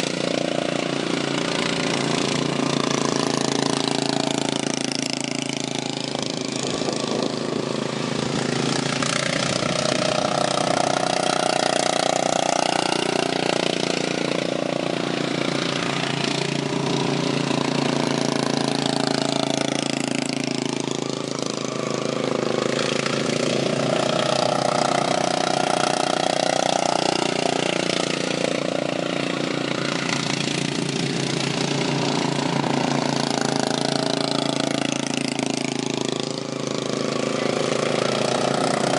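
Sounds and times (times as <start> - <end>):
lawn mower passing by: 0.0 - 38.9
racing lawn mower engines: 0.0 - 38.9.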